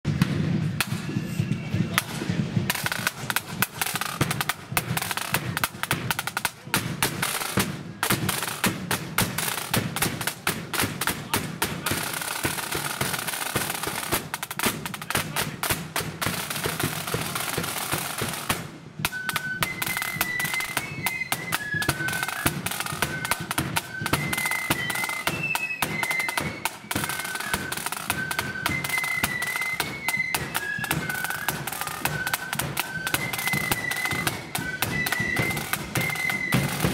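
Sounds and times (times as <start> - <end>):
snare drums rolling: 0.1 - 36.9
flutes playing high melody: 2.7 - 36.9.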